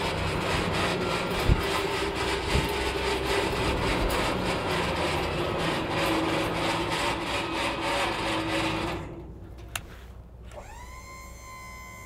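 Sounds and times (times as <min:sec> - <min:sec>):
hydraulic hoist whirring: 0:00.0 - 0:09.8, 0:10.4 - 0:12.0.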